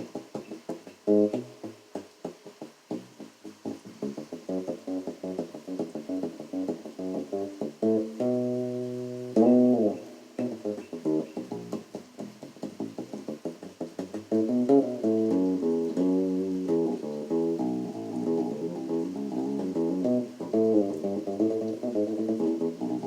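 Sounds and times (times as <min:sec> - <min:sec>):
muted bass guitar notes: 0:03.0 - 0:23.0.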